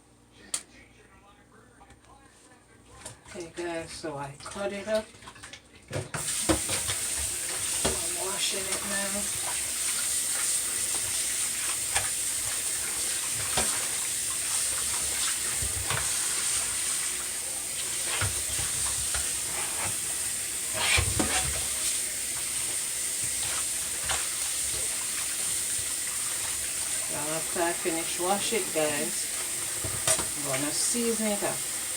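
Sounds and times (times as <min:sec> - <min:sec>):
water splashing in a bowl: 0:04.3 - 0:31.9.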